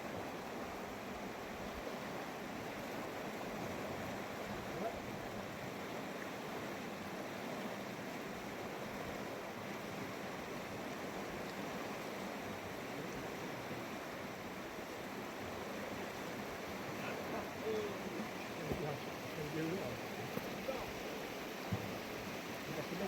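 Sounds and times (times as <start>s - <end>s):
fast-flowing river rushing: 0.0s - 23.0s.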